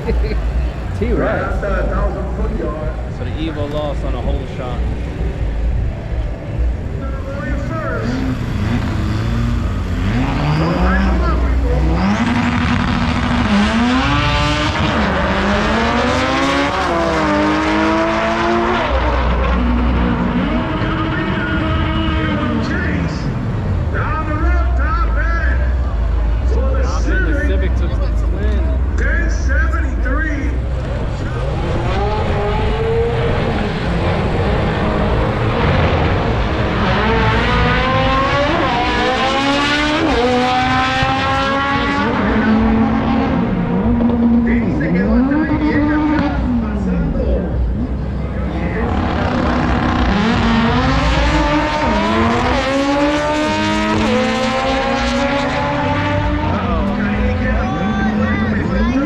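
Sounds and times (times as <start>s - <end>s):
drag racing car accelerating: 0.0s - 59.0s.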